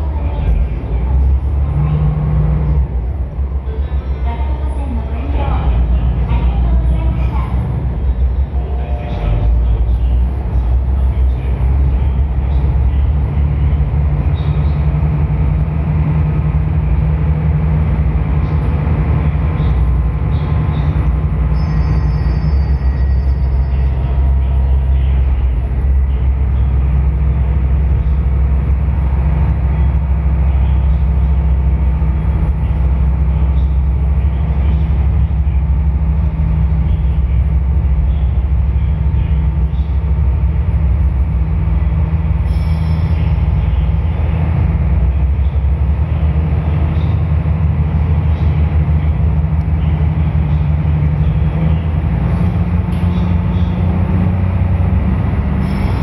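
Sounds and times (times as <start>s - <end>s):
ferry diesel engine droning: 0.0s - 56.0s.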